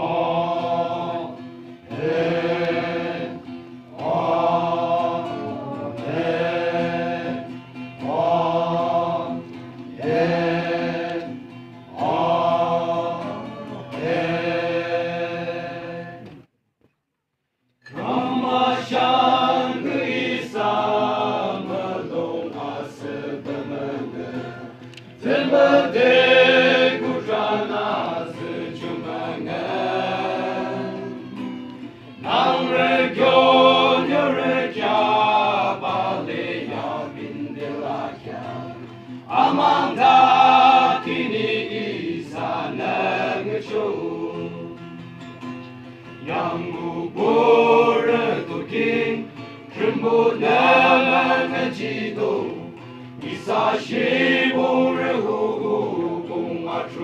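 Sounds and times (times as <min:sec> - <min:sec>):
men's choir singing: 0:00.0 - 0:16.4, 0:17.9 - 0:31.6, 0:32.2 - 0:44.9, 0:46.2 - 0:57.0
acoustic guitar: 0:00.0 - 0:57.0.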